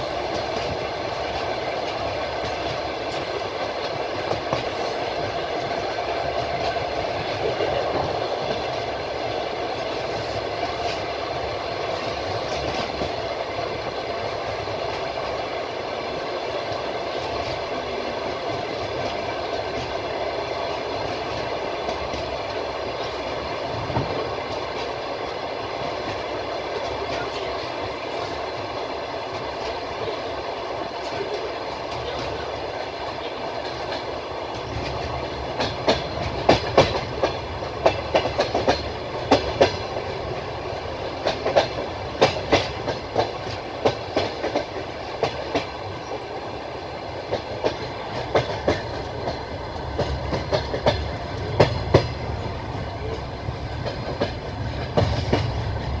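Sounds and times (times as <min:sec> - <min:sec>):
train rolling rumble: 0:00.0 - 0:56.0
wheels clacking over rail joints: 0:00.0 - 0:56.0.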